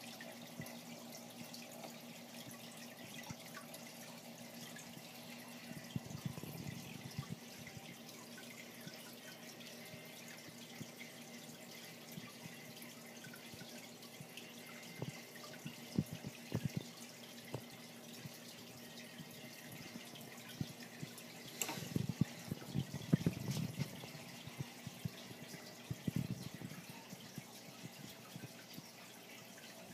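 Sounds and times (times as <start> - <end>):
aquarium water trickling and splashing: 0.0 - 29.9.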